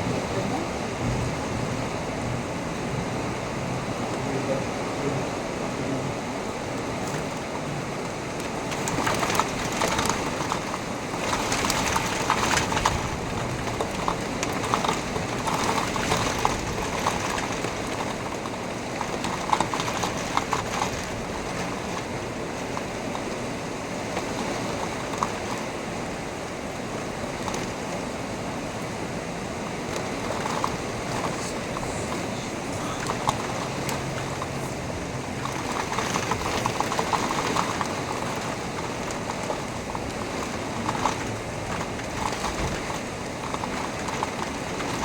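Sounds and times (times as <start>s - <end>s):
heavy rain on hard surface: 0.0s - 45.0s.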